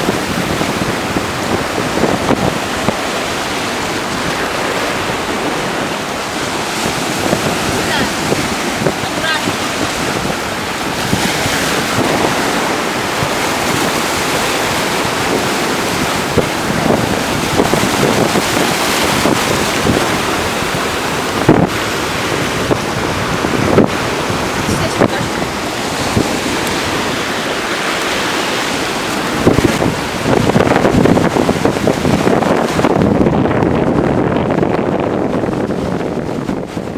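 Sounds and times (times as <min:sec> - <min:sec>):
sea waves washing in: 0:00.0 - 0:36.9
wind buffeting microphone: 0:00.0 - 0:36.9.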